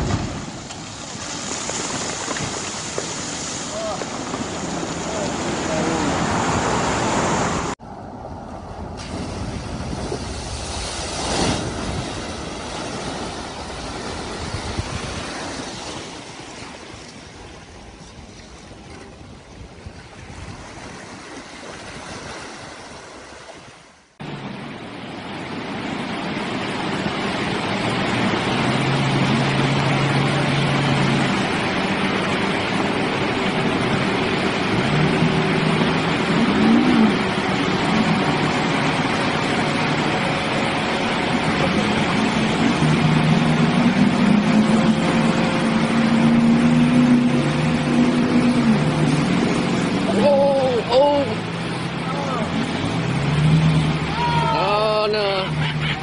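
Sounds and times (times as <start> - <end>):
vehicle engines running: 0.0 - 15.8, 24.2 - 56.0
water rushing and splashing: 0.0 - 56.0.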